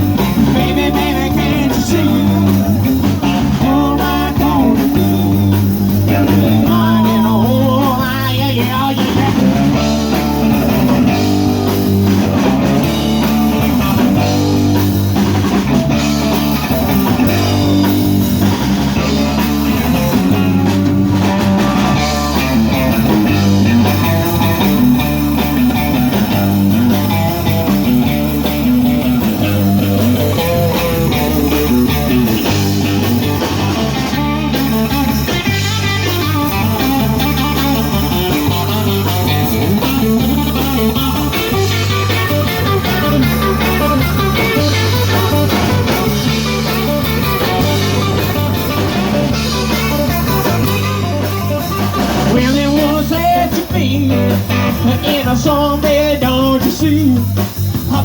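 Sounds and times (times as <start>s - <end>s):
drum kit: 0.0s - 58.0s
electric guitar: 0.0s - 58.0s
repeating bass line: 0.0s - 58.0s.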